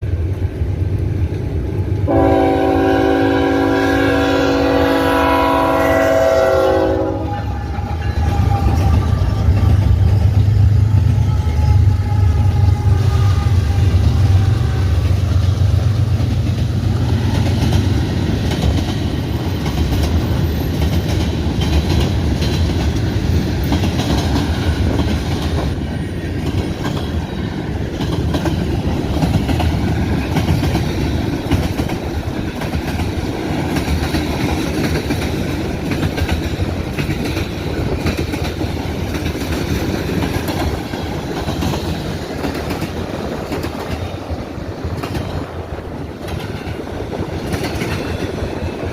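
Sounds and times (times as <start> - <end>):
freight train cars rumbling: 0.0 - 48.9
train wheels clacking over rail joints: 7.3 - 48.9.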